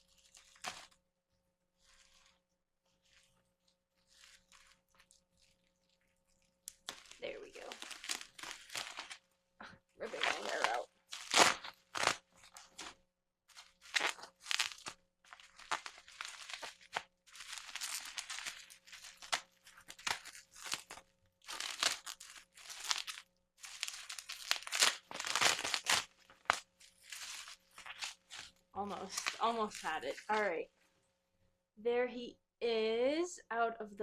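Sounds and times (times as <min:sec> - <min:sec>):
cardboard and plastic packaging rustling: 0:00.0 - 0:01.0, 0:01.8 - 0:05.8, 0:06.7 - 0:09.3, 0:10.0 - 0:30.6.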